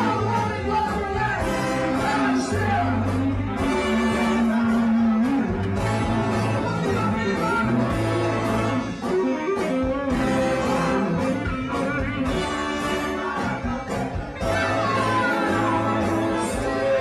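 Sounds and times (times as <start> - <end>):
electric guitar: 0.0 - 17.0
rock band playing live: 0.0 - 17.0.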